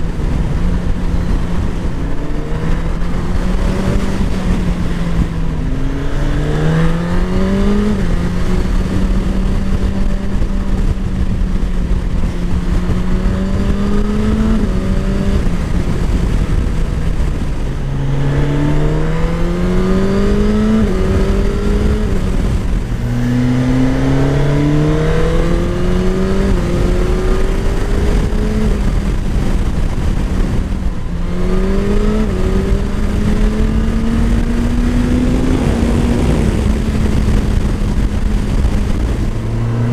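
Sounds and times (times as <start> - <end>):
motorcycle engine revving: 0.0 - 39.9
quick gear upshifts: 0.0 - 39.9.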